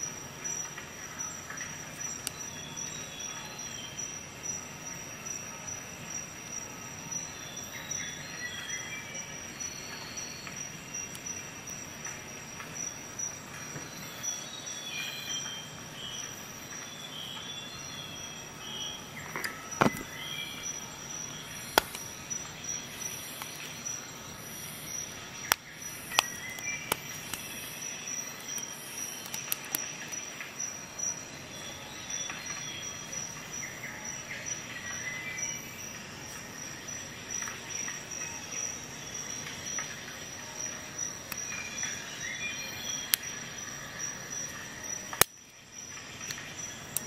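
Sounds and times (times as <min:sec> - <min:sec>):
faint chirping: 0:00.0 - 0:47.0.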